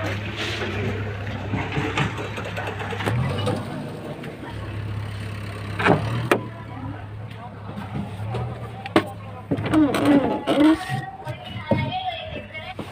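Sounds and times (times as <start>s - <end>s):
diesel truck engine idling: 0.0s - 12.9s.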